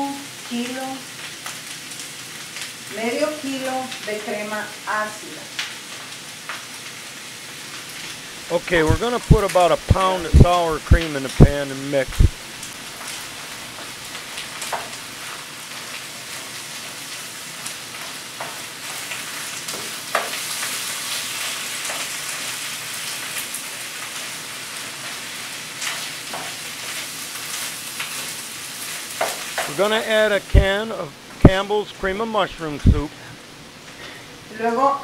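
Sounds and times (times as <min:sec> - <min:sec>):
meat sizzling in a pan: 0:00.0 - 0:35.0.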